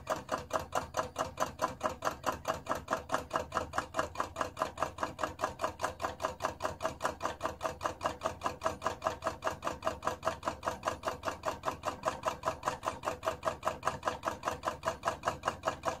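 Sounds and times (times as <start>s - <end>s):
stirling engine clicking: 0.0s - 16.0s.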